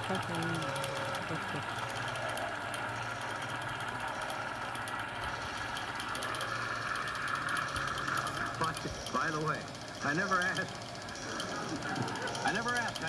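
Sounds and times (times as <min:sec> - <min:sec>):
video recorder mechanical whirr: 0:00.0 - 0:13.0.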